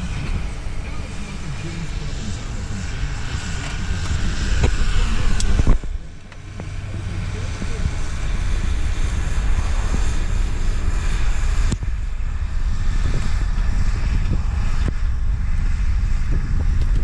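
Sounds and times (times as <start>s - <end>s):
distant tractor running: 0.0s - 17.0s
wind buffeting microphone: 0.0s - 17.0s.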